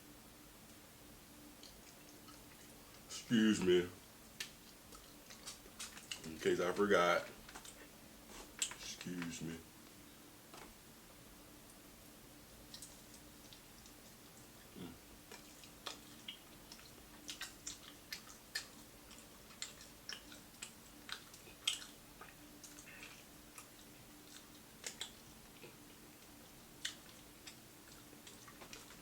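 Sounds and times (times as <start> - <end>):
faint steady hum: 0.0 - 29.0
chewing crispy fried food: 1.5 - 9.4, 12.5 - 29.0.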